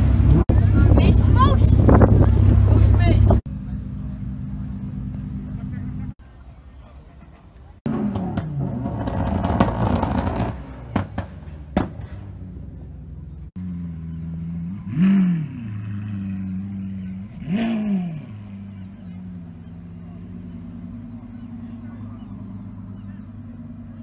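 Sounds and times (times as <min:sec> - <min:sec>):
loud rough supercar engine: 0:00.0 - 0:06.4, 0:07.2 - 0:24.0
supercar idling and revving: 0:00.0 - 0:24.0.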